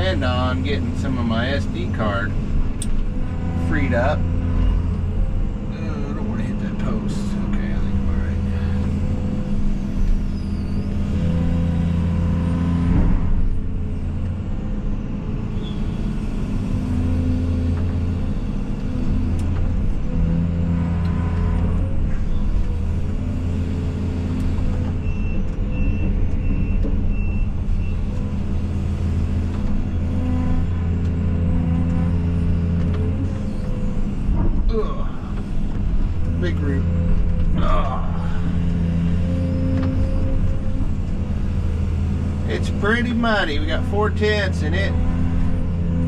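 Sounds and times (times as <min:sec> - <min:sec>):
excavator diesel engine working: 0:00.0 - 0:46.0.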